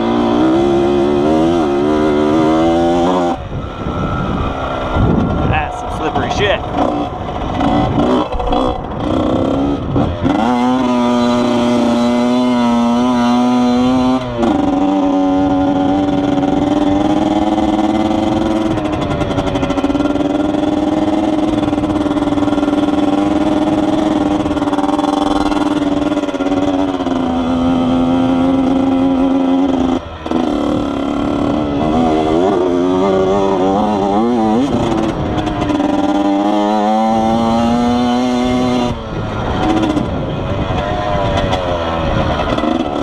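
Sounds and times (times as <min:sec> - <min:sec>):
dirt bike engine running hard: 0:00.0 - 0:43.0.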